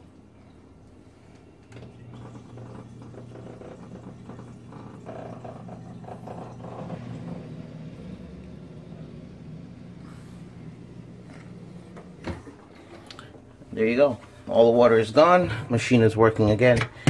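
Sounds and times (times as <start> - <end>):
dishwasher drain pump humming: 0.0 - 17.0.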